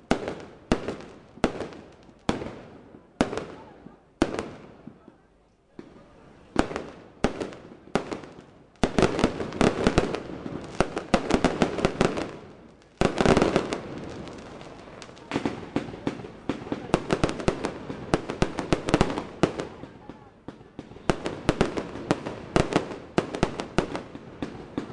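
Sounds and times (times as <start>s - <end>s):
fireworks bangs and crackling: 0.0s - 24.9s.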